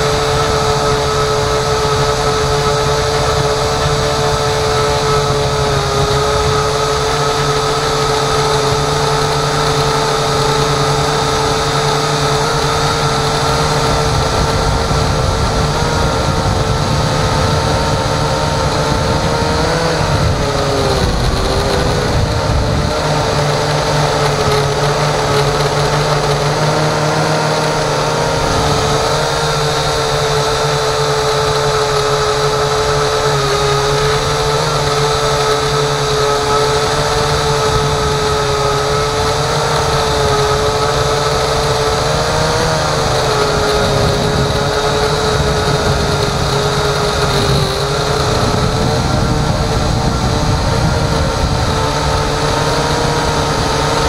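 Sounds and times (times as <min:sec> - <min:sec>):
drone motor high whine: 0:00.0 - 0:54.0
wind and airflow noise: 0:00.0 - 0:54.0.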